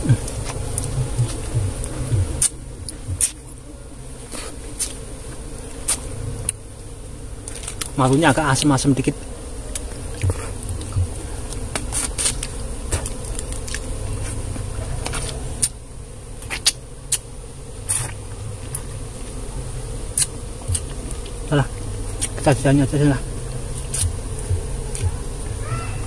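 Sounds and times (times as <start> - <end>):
wet clicks of honeycomb chewing: 0.0 - 3.5, 4.3 - 6.6, 7.4 - 15.8, 16.4 - 22.6, 23.3 - 25.4
bees buzzing: 0.0 - 26.0.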